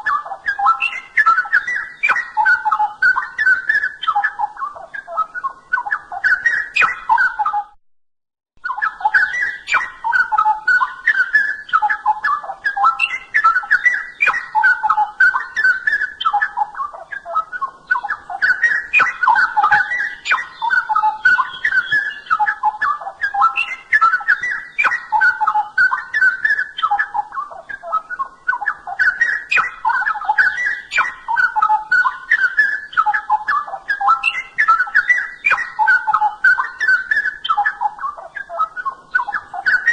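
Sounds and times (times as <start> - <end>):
bird singing rich warbling phrases: 0.0 - 7.8, 8.6 - 39.9.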